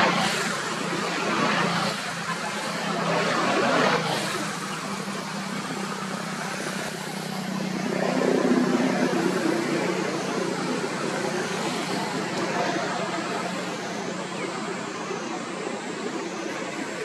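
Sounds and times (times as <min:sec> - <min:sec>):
steady engine hum: 0:00.0 - 0:17.0.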